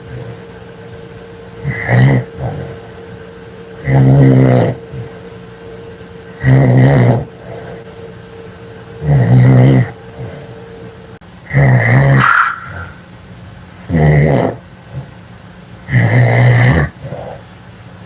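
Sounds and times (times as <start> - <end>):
low buzzing snore: 0.0 - 18.0.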